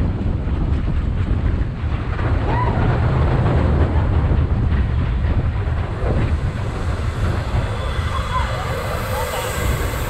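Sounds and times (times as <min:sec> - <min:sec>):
roller coaster rumbling on rails: 0:00.0 - 0:10.0.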